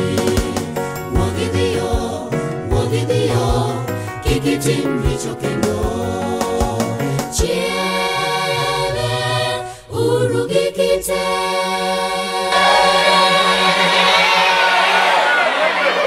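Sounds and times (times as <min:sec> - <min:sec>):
gospel choir singing: 0:00.0 - 0:16.0.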